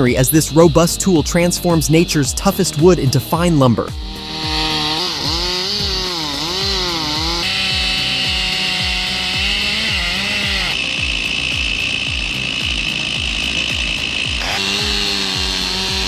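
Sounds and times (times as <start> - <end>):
background music with steady beat: 0.0 - 16.0
chainsaw cutting wood: 0.0 - 16.0.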